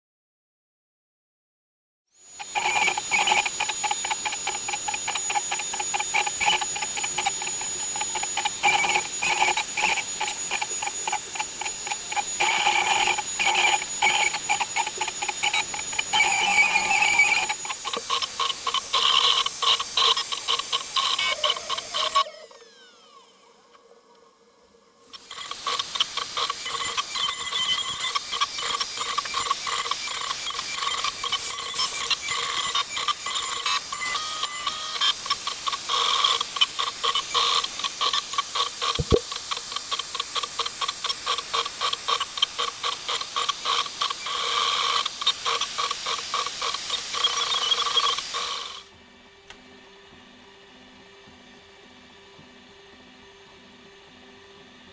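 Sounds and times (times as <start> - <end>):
router spindle high whine: 2.2 - 49.0.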